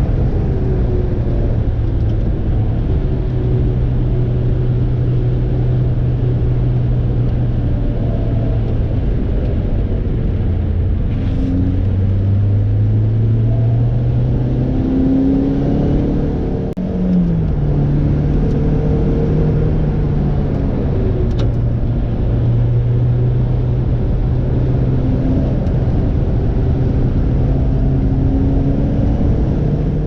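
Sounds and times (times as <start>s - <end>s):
sports car engine running hard: 0.0s - 30.0s.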